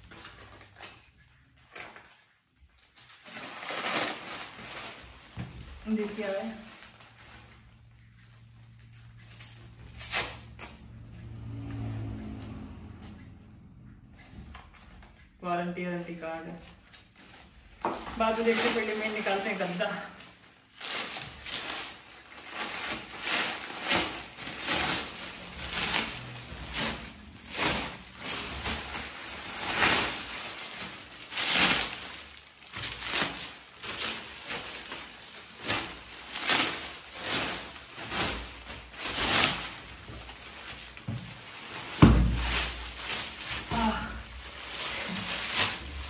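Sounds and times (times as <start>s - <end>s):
plastic film rustling: 0.0s - 13.2s, 14.4s - 46.0s.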